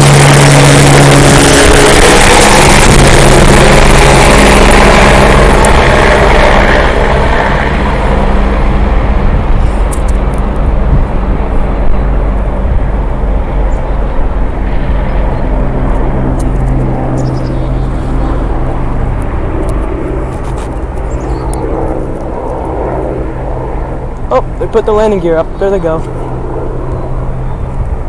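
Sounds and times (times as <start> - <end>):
helicopter rotor drone: 0.0 - 28.0
high turbine whine: 0.0 - 28.0.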